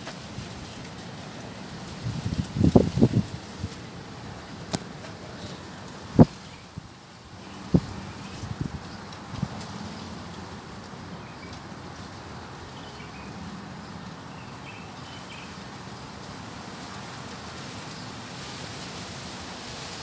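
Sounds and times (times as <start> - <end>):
leaves rustling: 0.0 - 20.0
strong wind through trees: 0.0 - 20.0.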